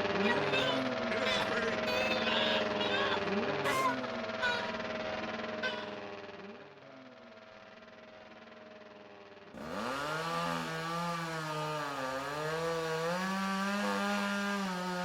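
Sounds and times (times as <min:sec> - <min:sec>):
chainsaw revving: 0:00.0 - 0:15.0
faint engine hum: 0:00.0 - 0:15.0.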